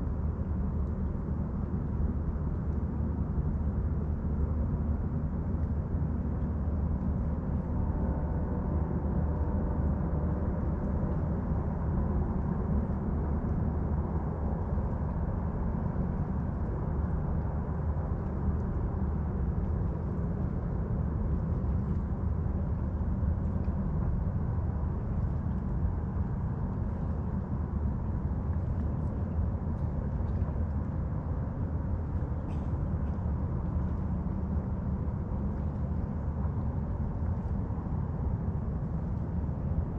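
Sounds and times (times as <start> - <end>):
distant motorboat engine rumble: 5.9 - 39.9.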